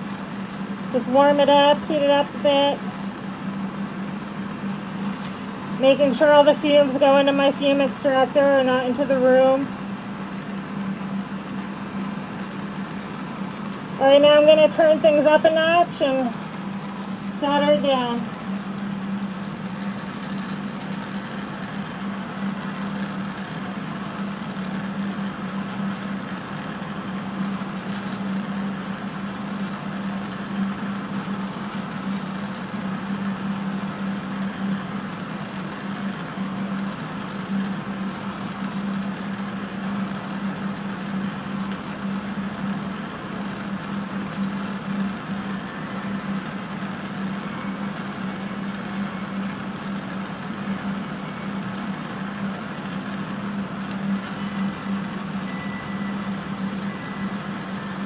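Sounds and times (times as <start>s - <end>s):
fans rushing air: 0.0s - 58.0s
low constant hum: 0.0s - 58.0s.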